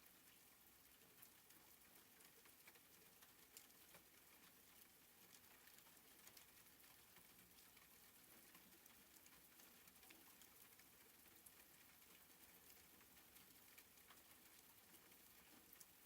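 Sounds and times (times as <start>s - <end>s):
raindrop ticks: 0.0s - 16.0s
soft rain hissing: 0.0s - 16.0s.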